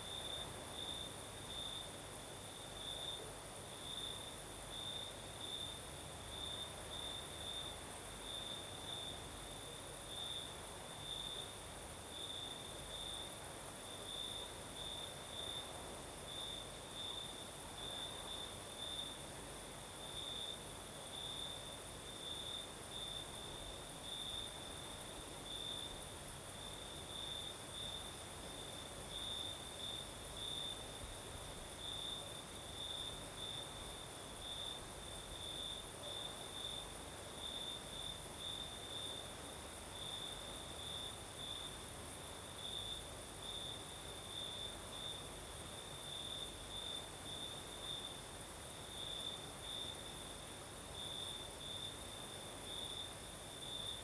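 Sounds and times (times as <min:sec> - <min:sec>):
cricket chirping: 0:00.0 - 0:54.0
steady high-pitched hiss: 0:00.0 - 0:54.0.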